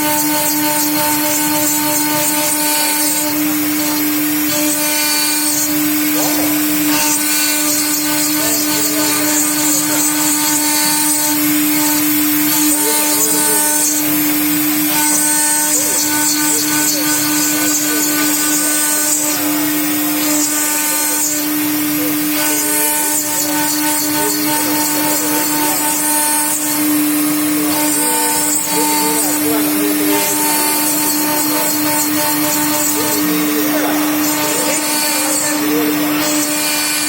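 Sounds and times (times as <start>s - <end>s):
cutter hissing on stone: 0.0s - 37.0s
router whine: 0.0s - 37.0s.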